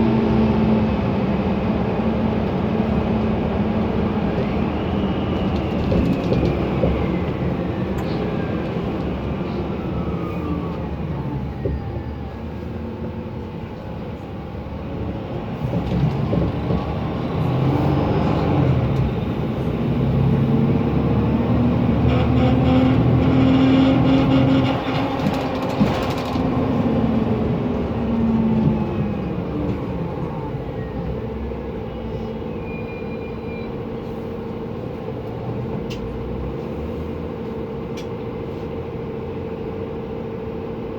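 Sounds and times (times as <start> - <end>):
bus engine driving: 0.0 - 40.9.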